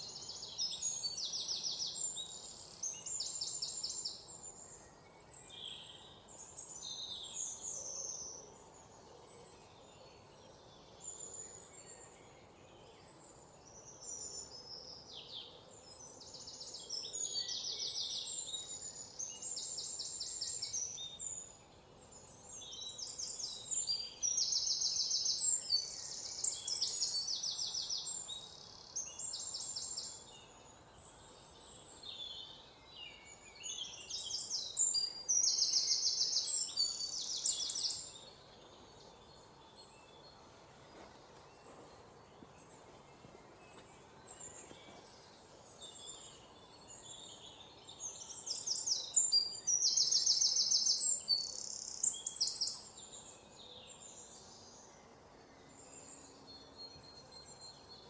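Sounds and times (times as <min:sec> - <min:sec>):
faint background hiss: 0:00.0 - 0:58.0
songbirds trilling and chirping: 0:00.0 - 0:58.0.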